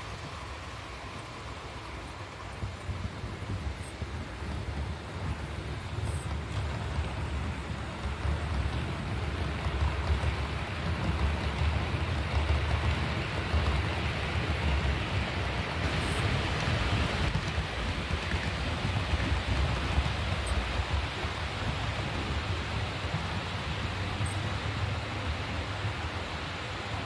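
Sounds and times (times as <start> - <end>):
model train wheels on rails: 0.0 - 27.0.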